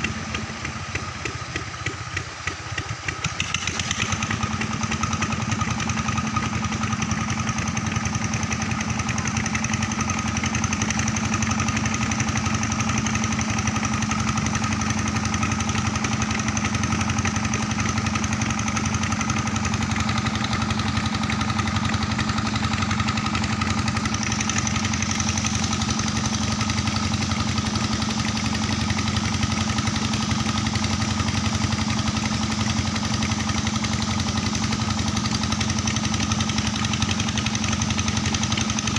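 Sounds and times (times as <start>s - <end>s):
pump engine running steadily: 0.0s - 38.9s.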